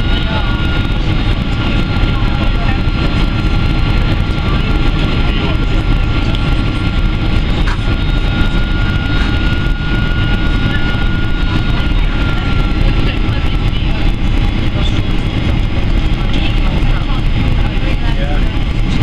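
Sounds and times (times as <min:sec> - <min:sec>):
jet engine roar in cabin: 0:00.0 - 0:19.0.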